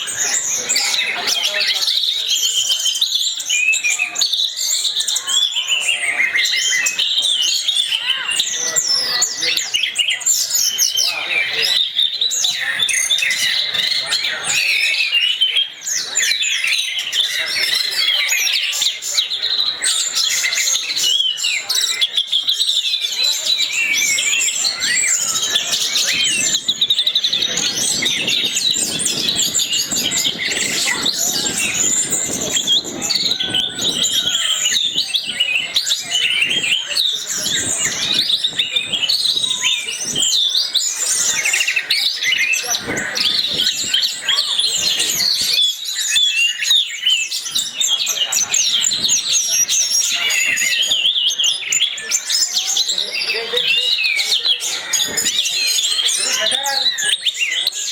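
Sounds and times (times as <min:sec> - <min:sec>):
thrush singing chirps and whistles: 0:00.0 - 0:57.9.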